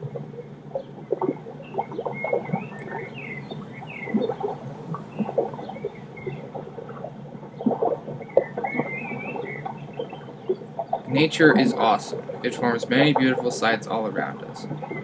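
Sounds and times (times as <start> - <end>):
water trickling and splashing: 0.0 - 15.0
small birds chirping: 0.3 - 15.0.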